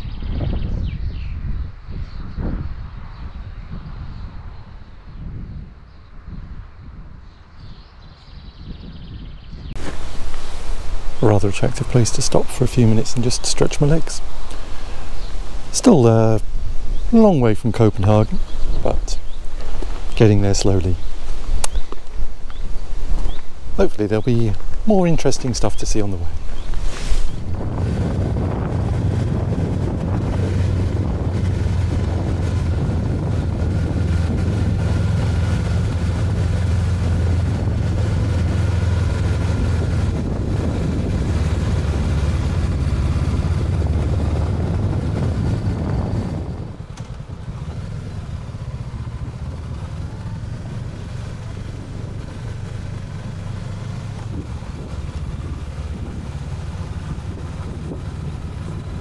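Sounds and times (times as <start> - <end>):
wind rushing over microphone: 0.0 - 59.0
motorcycle engine running: 9.8 - 59.0.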